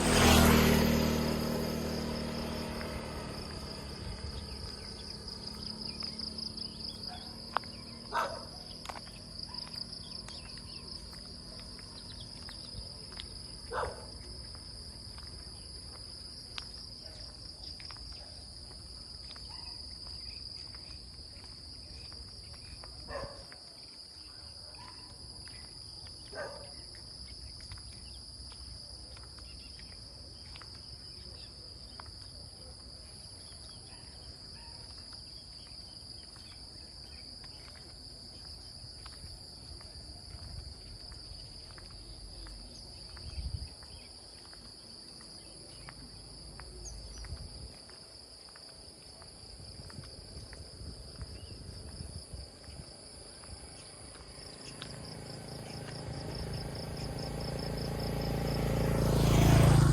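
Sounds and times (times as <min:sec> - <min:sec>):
crickets and insects chirring: 0:00.0 - 0:59.9.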